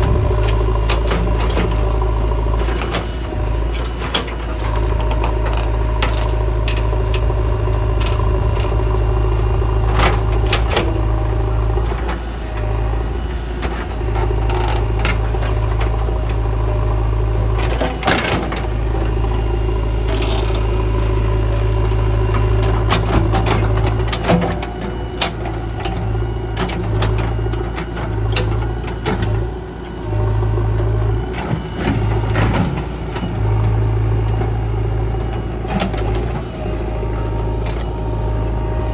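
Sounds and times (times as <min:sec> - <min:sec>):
backhoe diesel engine under load: 0:00.0 - 0:38.9.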